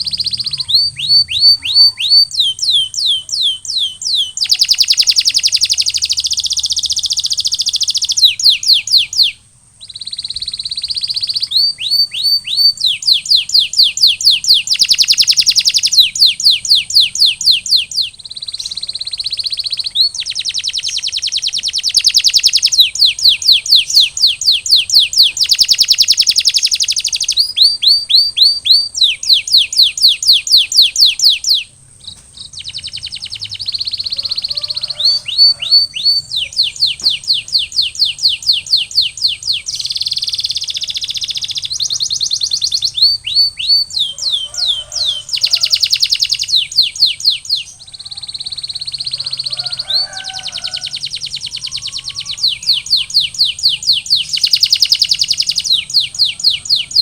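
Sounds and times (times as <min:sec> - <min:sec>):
canary singing trills and whistles: 0:00.0 - 0:57.0.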